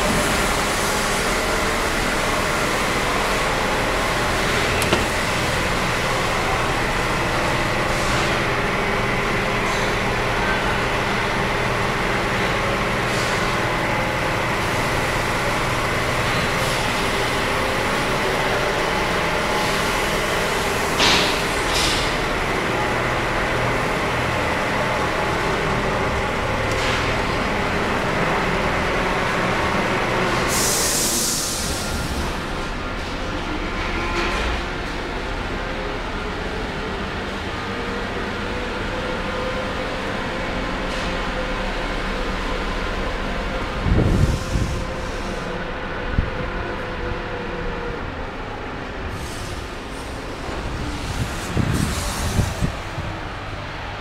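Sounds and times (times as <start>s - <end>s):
factory machinery hum and roar: 0.0s - 54.0s.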